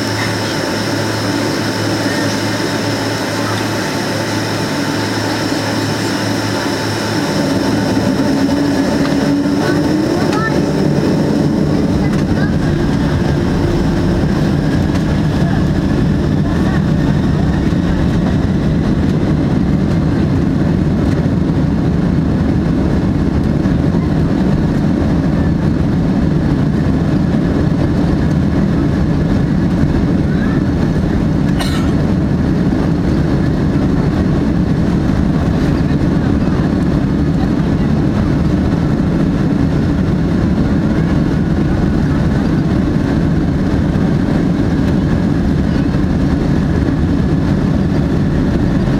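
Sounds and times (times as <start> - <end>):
jet engines low rumble: 0.0 - 48.9.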